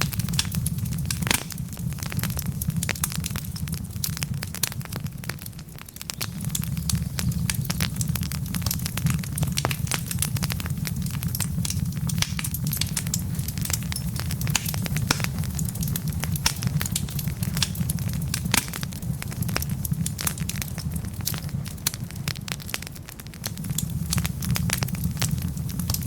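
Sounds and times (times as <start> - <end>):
burning logs snapping and popping: 0.0 - 26.0
low rumble of flames: 0.0 - 26.0
wood fire crackling: 0.0 - 26.0.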